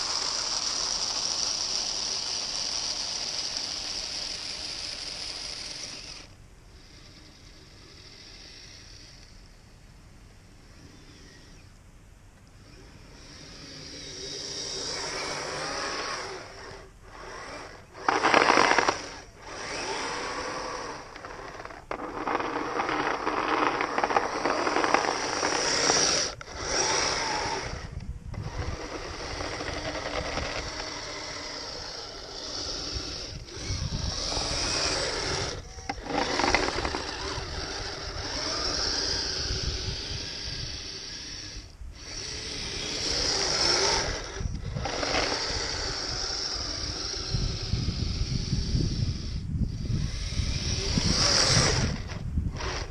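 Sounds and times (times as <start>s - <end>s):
electric motor and gearbox whining: 0.0s - 9.6s, 10.6s - 11.8s, 12.4s - 52.9s.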